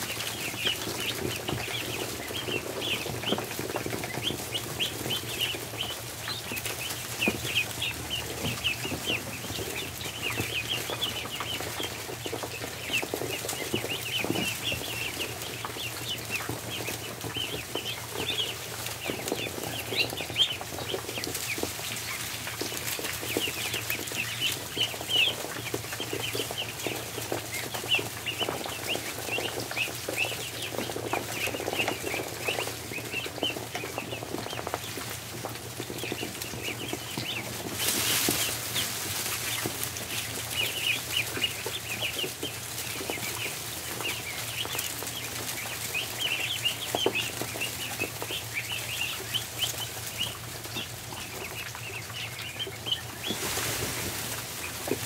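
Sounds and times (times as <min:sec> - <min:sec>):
birds tapping and scuffling: 0:00.0 - 0:55.0
ducklings peeping: 0:00.0 - 0:55.0.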